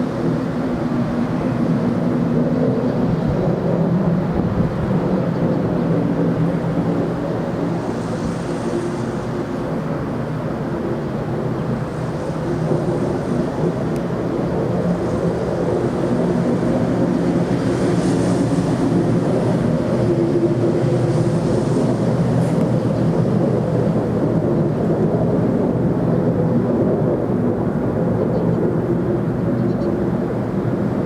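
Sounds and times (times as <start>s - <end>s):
low steady drone: 0.0s - 31.0s.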